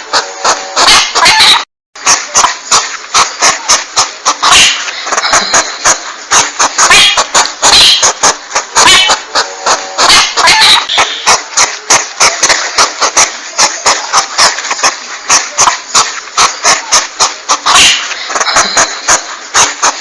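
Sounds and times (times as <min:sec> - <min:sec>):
porcupine clicks and squealing chatter: 0:00.8 - 0:20.0.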